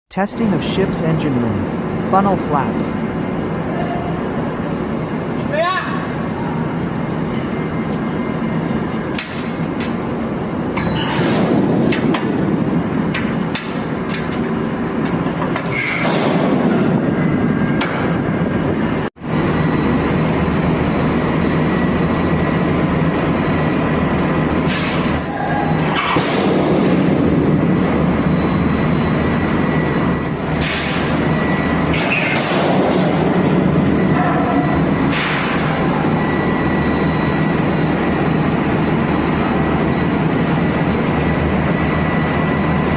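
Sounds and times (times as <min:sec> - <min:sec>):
engine room machinery noise: 0:00.1 - 0:42.9.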